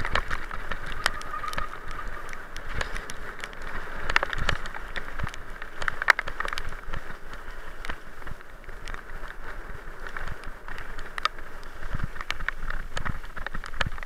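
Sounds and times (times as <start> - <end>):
bicycle rattling and knocking: 0.0 - 14.0
bicycle tyres crunching gravel: 0.0 - 14.0.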